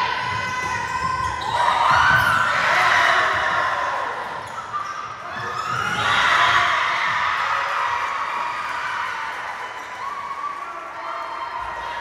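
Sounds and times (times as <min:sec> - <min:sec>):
voices echoing in a hall: 0:00.0 - 0:12.0.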